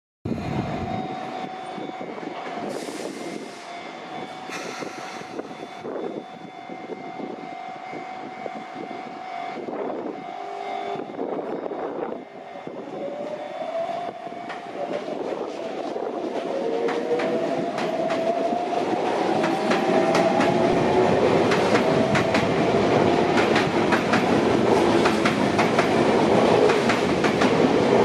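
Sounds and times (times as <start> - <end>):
steady tone from train equipment: 0.3 - 28.0.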